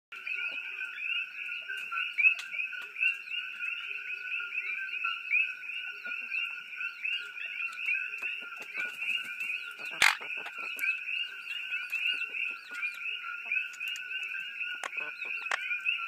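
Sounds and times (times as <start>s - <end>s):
frogs chirping: 0.2s - 16.0s.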